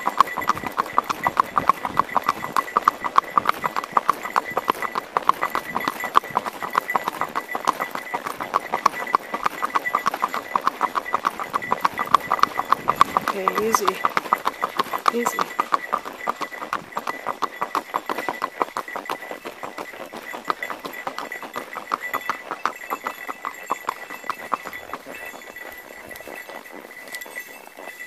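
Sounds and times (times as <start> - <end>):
horse hooves on asphalt: 0.0 - 28.0.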